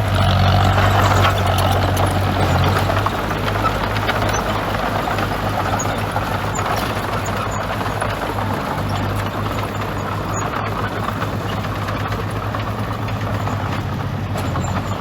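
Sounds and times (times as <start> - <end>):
heavy diesel engine humming: 0.0 - 15.0.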